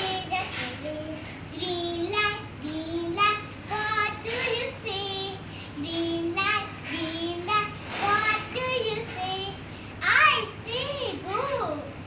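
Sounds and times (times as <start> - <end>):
girl singing unaccompanied: 0.0 - 12.0.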